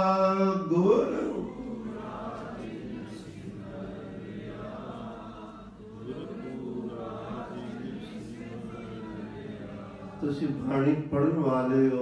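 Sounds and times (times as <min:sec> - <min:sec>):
congregation singing in unison: 0:00.0 - 0:12.0.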